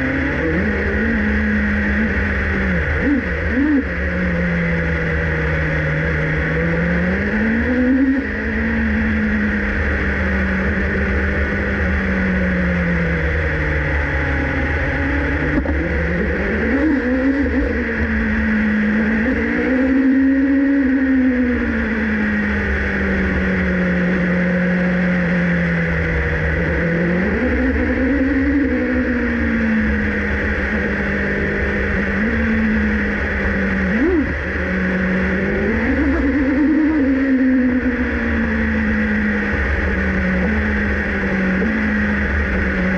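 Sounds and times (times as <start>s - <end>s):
high whine: 0.0s - 42.9s
racing car engine: 0.0s - 42.9s.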